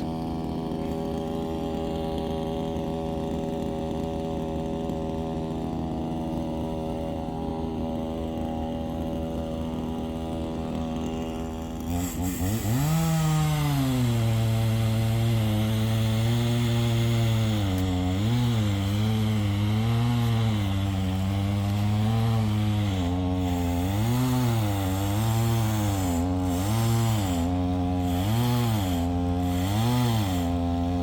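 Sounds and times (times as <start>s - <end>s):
chainsaw revving: 0.0s - 31.0s.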